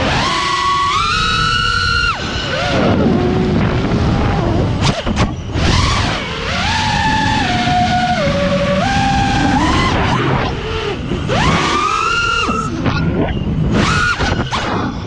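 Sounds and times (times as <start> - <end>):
drone motors whining: 0.0 - 15.0
wind rumble on microphone: 0.0 - 15.0.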